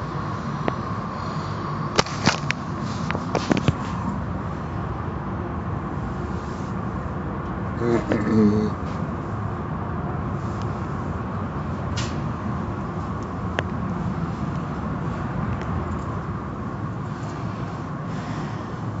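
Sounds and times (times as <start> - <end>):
car wash machinery rumble: 0.0 - 19.0.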